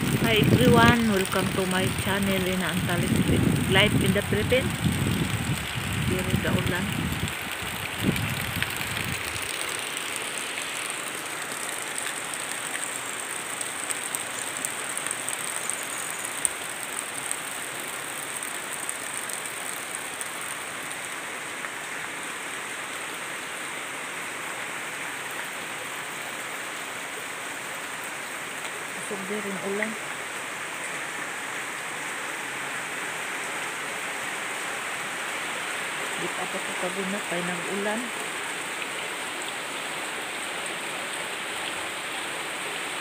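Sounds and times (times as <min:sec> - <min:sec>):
heavy rain hiss: 0:00.0 - 0:43.0.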